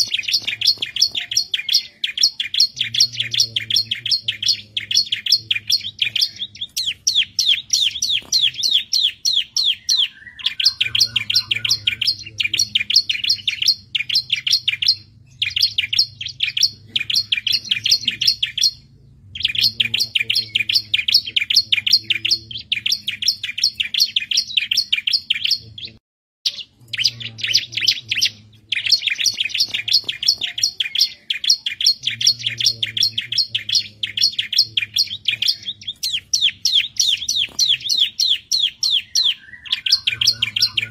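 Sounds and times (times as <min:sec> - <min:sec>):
bird singing trills: 0:00.0 - 0:40.9.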